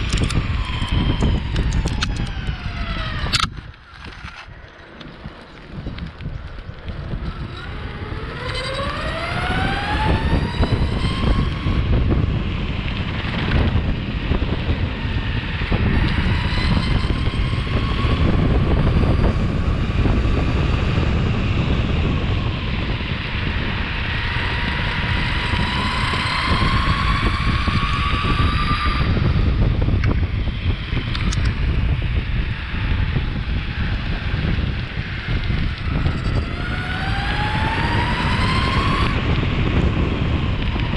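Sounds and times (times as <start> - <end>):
electric longboard motors whining: 0.0 - 40.9
wheels rumbling on rough pavement: 0.0 - 40.9.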